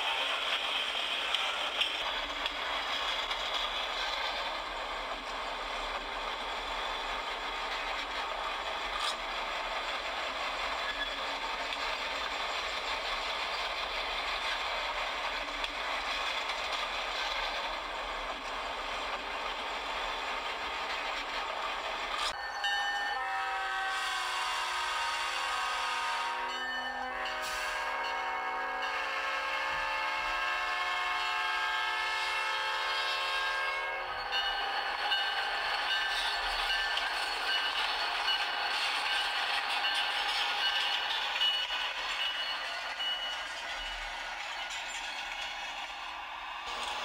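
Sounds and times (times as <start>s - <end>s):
train rumbling and rattling: 0.0s - 47.0s.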